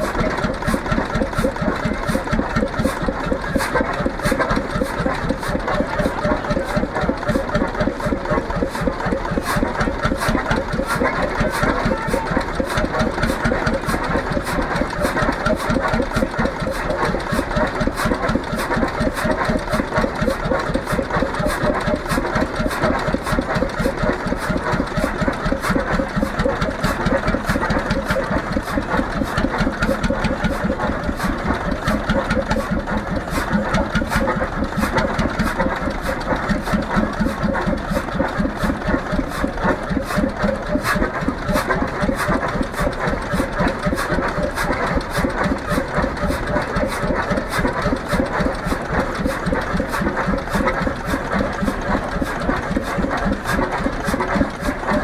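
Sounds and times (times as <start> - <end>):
single-cylinder engine running: 0.0 - 55.0.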